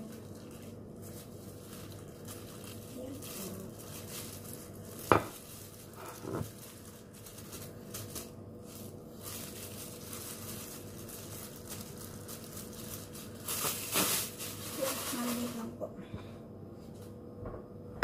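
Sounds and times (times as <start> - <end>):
plastic gloves crinkling: 0.0 - 15.8.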